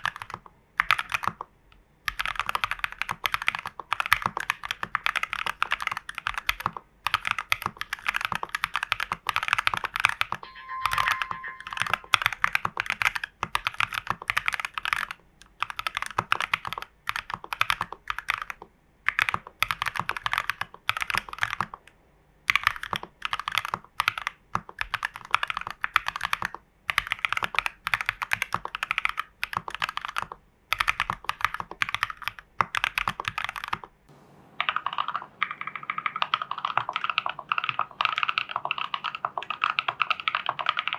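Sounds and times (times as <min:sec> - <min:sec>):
mechanical keyboard typing: 0:00.0 - 0:01.5, 0:02.1 - 0:21.8, 0:22.5 - 0:33.9, 0:34.6 - 0:40.9.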